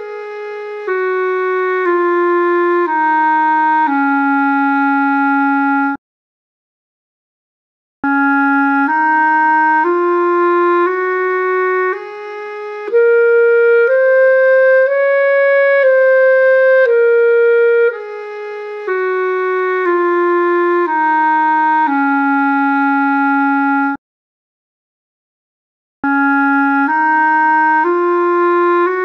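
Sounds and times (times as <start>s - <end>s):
clarinet playing a scale: 0.0s - 6.0s, 8.0s - 24.0s, 26.0s - 29.0s.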